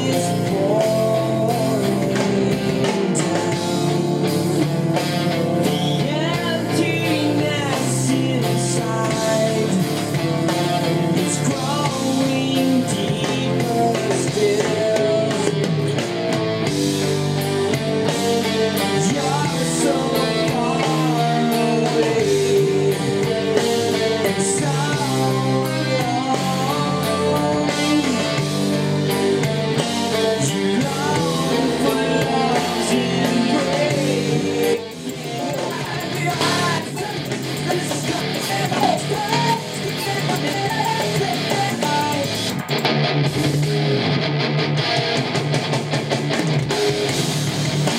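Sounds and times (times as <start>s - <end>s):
rock song with singing: 0.0s - 47.9s.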